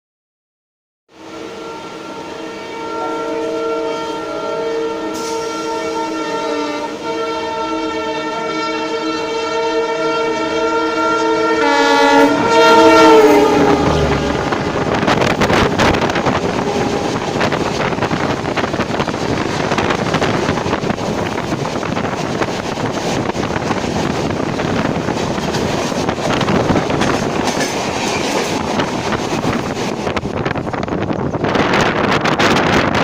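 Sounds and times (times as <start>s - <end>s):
train coaches rushing past: 1.2s - 8.6s, 10.3s - 33.0s.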